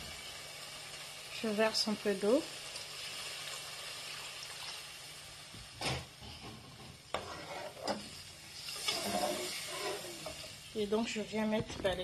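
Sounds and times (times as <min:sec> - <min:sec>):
sauce sizzling in a pan: 0:00.0 - 0:11.5.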